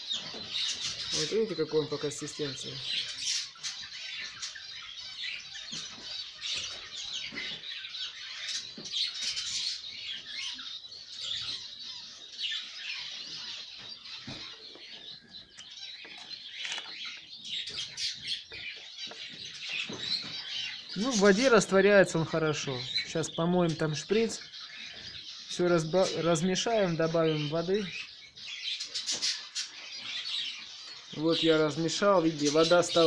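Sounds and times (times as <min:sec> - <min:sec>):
budgerigars chattering and chirping: 0:00.0 - 0:33.0.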